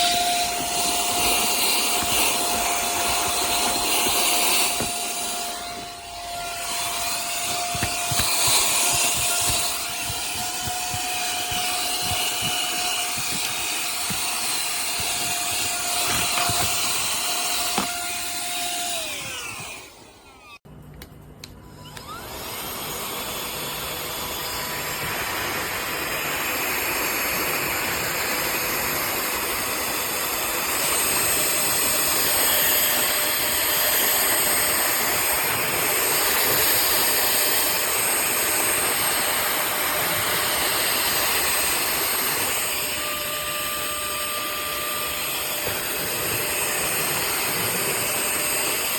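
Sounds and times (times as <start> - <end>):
handheld vacuum cleaner whine: 0.0 - 20.6, 21.6 - 48.9.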